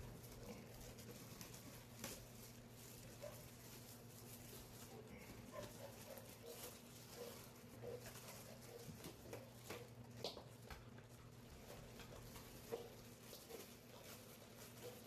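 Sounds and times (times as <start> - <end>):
taps and rustles of plastic bag: 0.0 - 15.0.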